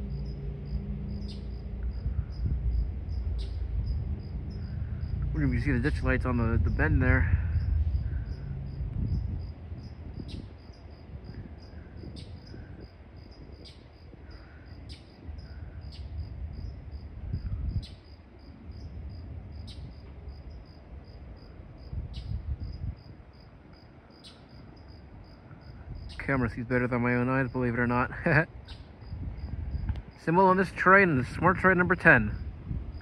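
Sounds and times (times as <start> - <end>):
crickets chirping: 0.0 - 33.0
low rumble: 0.0 - 33.0.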